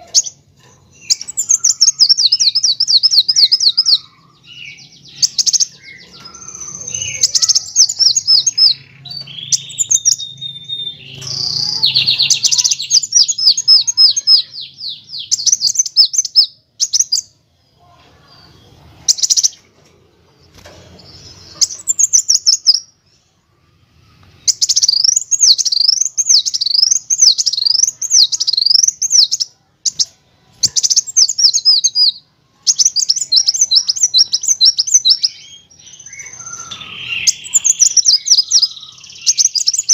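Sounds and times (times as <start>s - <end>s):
bird trilling and chattering: 0.0s - 17.4s, 18.3s - 19.6s, 20.5s - 23.0s, 24.4s - 39.9s.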